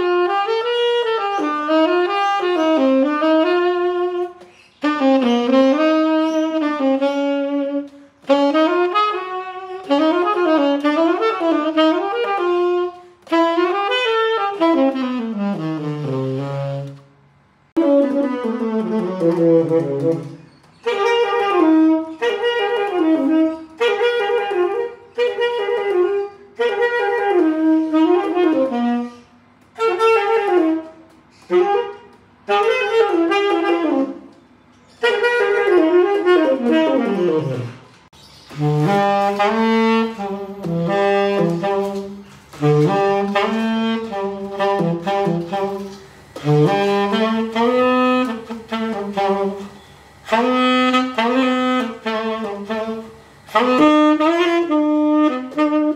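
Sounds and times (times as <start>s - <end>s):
tenor saxophone playing: 0.0s - 55.9s.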